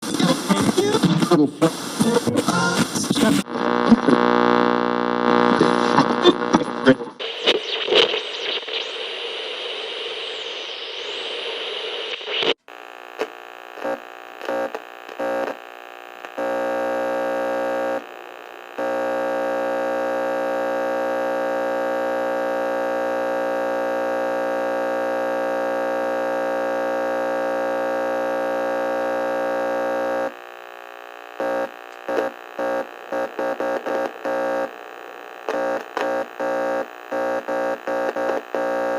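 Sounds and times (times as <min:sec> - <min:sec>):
radio static hiss: 0:00.0 - 0:38.9
radio station breaking up: 0:00.0 - 0:38.9
buzzing hum: 0:03.4 - 0:38.9.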